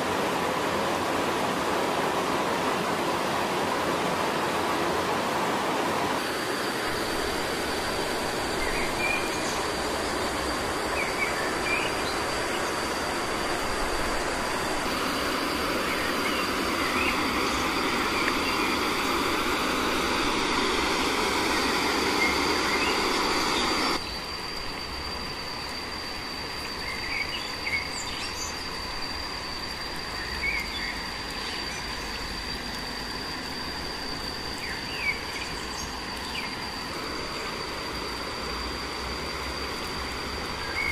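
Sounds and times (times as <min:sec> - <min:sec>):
high insect drone: 0:00.0 - 0:40.9
running creek water: 0:00.0 - 0:40.9.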